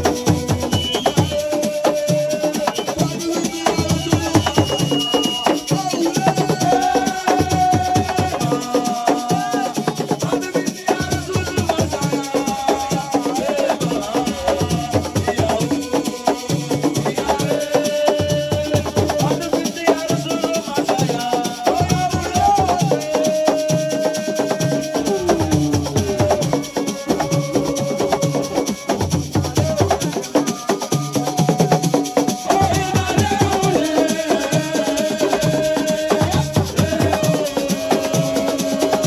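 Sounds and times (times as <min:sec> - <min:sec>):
gliding singing voices: 0:00.0 - 0:39.0
rattles and shakers: 0:00.0 - 0:39.0.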